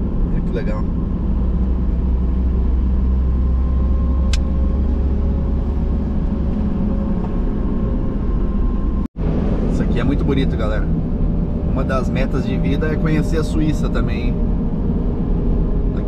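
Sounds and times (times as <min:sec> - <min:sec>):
engine and road noise: 0:00.0 - 0:16.0.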